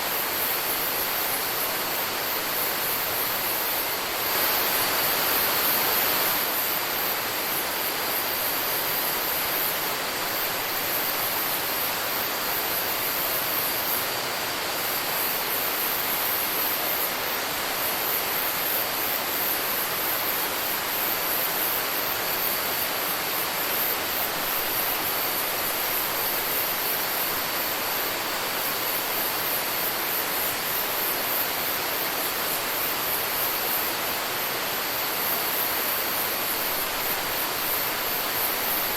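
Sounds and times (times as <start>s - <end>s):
shrill high insect chorus: 0.0s - 38.9s.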